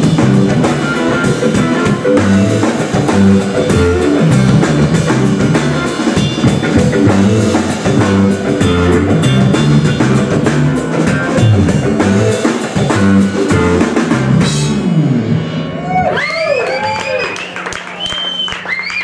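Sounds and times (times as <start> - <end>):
blues-rock band playing: 0.0 - 16.4.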